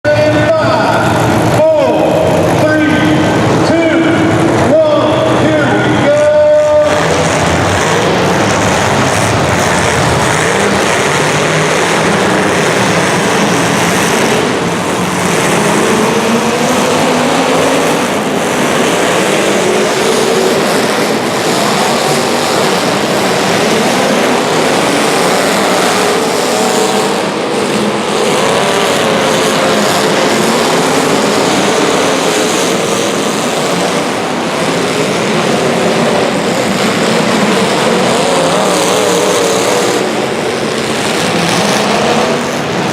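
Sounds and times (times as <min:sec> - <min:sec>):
racing engines revving: 0:00.0 - 0:42.9.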